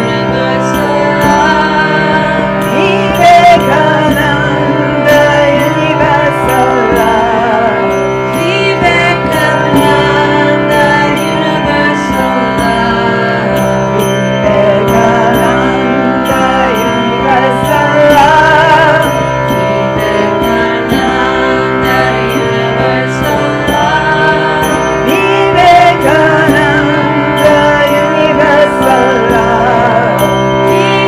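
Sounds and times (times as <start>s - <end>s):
group singing devotional song: 0.0s - 31.0s
small metal percussion ringing: 0.0s - 31.0s
sustained drone: 0.0s - 31.0s.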